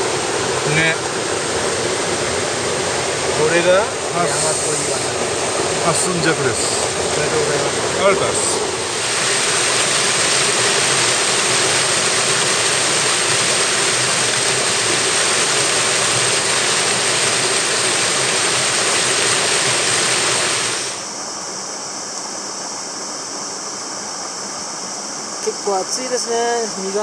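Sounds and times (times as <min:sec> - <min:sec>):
stream rushing over boulders: 0:00.0 - 0:27.0.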